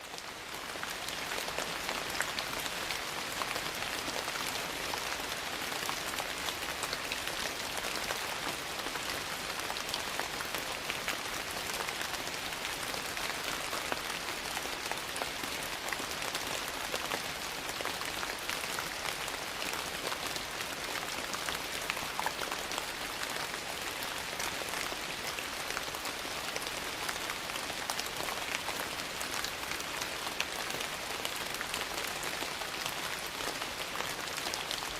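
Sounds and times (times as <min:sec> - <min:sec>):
rain falling on a porch: 0:00.0 - 0:34.9.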